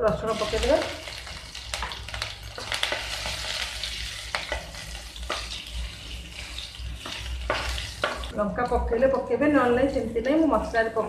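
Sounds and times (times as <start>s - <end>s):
garlic and seeds sizzling in oil: 0.0s - 11.0s
spatula scraping and tapping pan: 0.6s - 11.0s.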